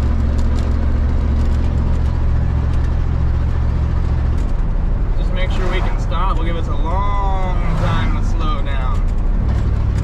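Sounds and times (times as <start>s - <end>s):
road noise: 0.0s - 10.0s
truck engine droning: 0.0s - 10.0s.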